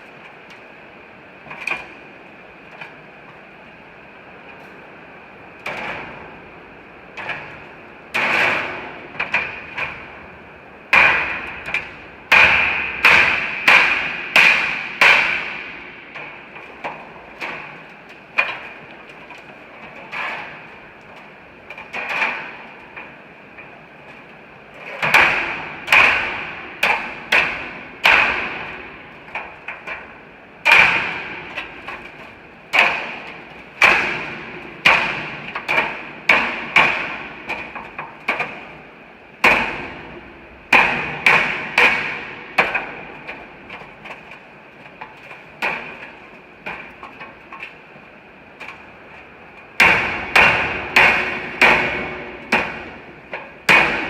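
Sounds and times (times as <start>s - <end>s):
hammer blows on steel panels: 4.9s - 54.0s.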